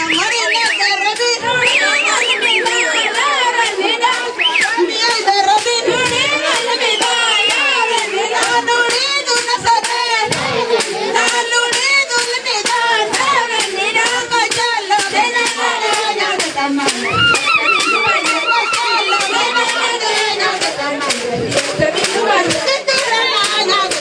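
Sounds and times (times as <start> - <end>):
rhythmic hand clapping: 0.0 - 24.0
women singing together: 0.0 - 24.0.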